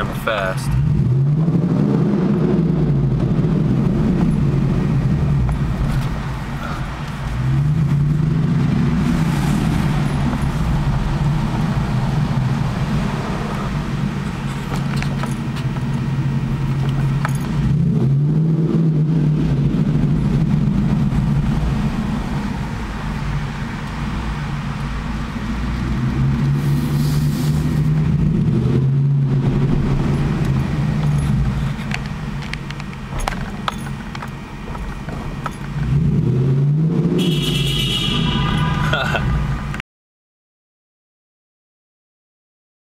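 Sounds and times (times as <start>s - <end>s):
car engine with deep exhaust note: 0.0s - 39.8s.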